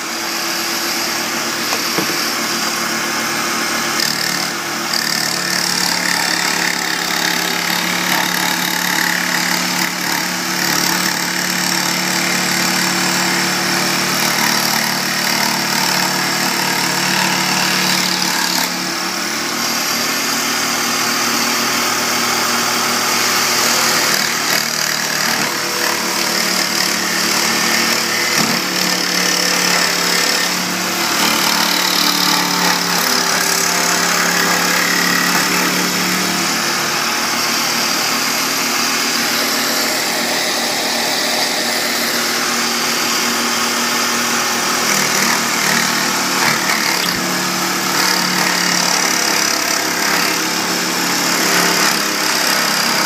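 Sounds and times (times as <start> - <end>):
machine running loudly: 0.0 - 53.0.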